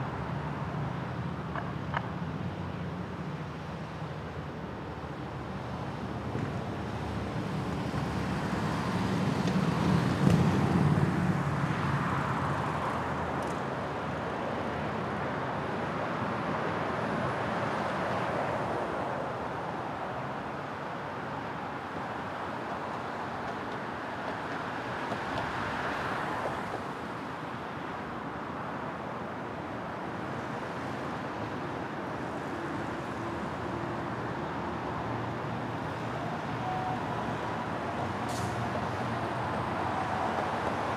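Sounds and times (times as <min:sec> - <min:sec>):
steady traffic noise: 0:00.0 - 0:40.9
vehicles passing: 0:00.0 - 0:40.9.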